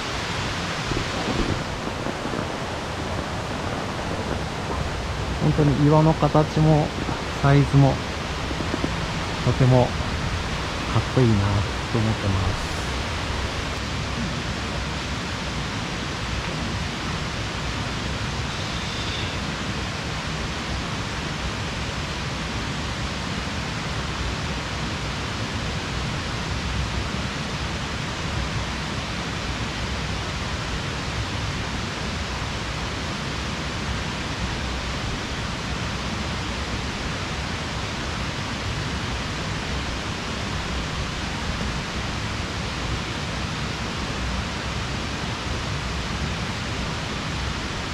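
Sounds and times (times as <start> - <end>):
steady rushing noise: 0.0 - 47.9.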